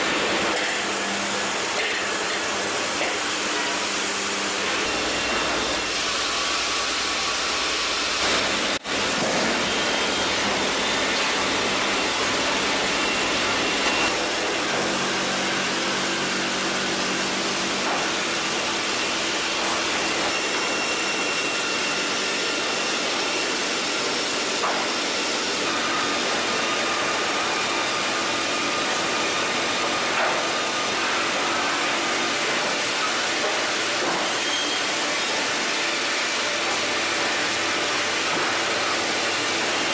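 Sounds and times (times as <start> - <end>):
band saws cutting logs: 0.0 - 39.9.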